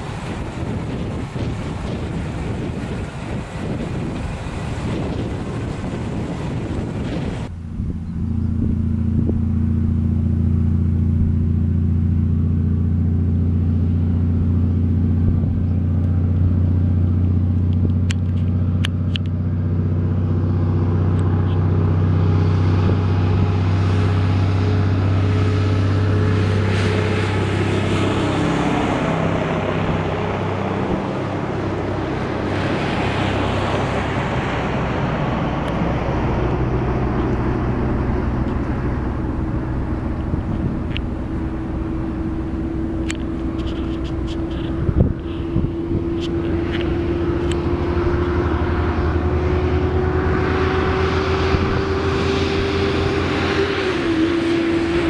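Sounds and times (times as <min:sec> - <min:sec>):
wind on microphone: 0:00.0 - 0:11.7, 0:13.0 - 0:55.0
truck diesel engine drone: 0:00.0 - 0:55.0.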